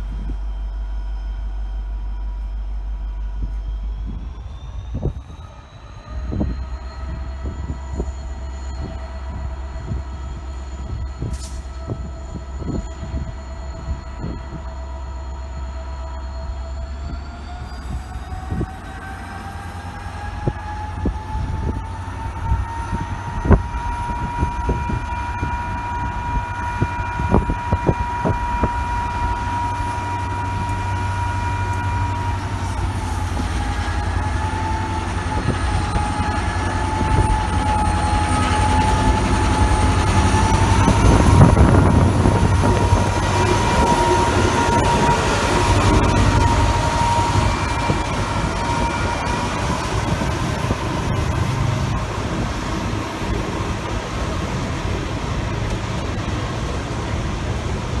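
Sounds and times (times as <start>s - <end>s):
diesel locomotive rumble: 0.0s - 58.0s
engine whine: 0.0s - 58.0s.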